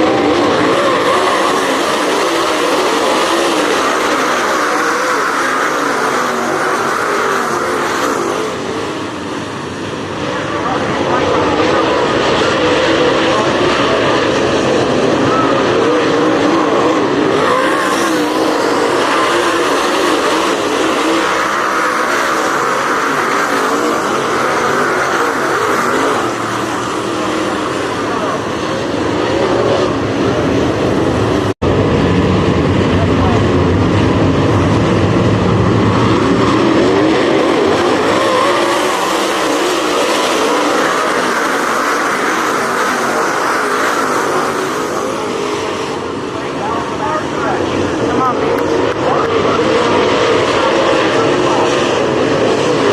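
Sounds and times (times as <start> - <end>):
race car engines: 0.0 - 52.9.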